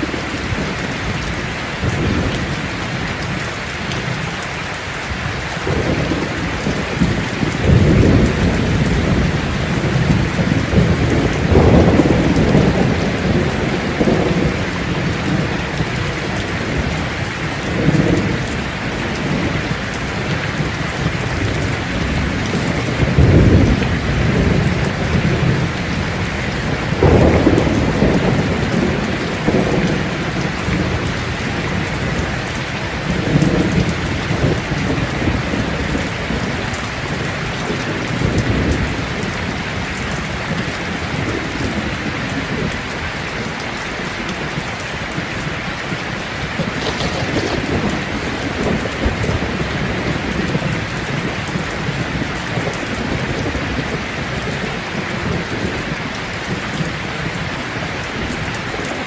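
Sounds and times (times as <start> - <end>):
steady rain: 0.0 - 59.0
thunder rolling: 5.5 - 42.8, 44.4 - 57.4.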